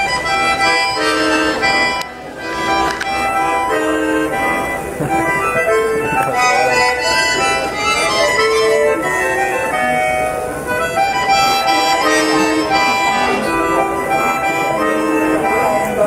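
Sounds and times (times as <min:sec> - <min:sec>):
accordion melody: 0:00.0 - 0:16.0.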